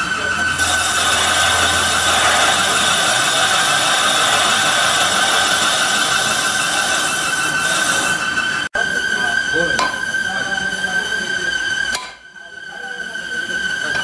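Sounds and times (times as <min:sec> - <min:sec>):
metal lathe cutting steel: 0:00.0 - 0:14.0.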